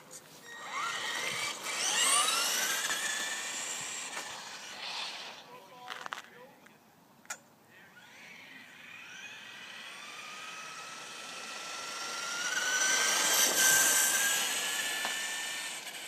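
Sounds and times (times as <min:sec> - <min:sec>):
rc car motor whining: 0:00.4 - 0:06.3, 0:07.7 - 0:16.0.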